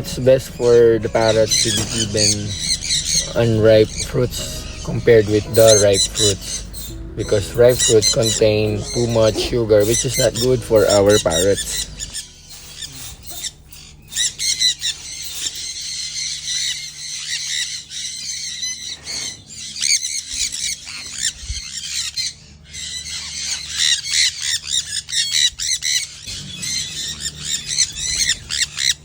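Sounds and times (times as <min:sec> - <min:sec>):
parrots squawking and screeching: 0:00.0 - 0:29.0.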